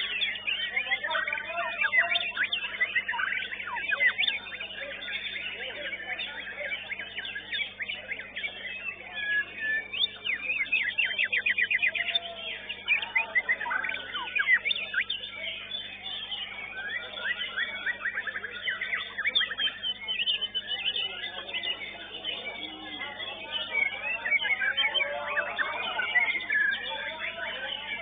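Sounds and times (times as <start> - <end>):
birds singing: 0.0 - 28.0.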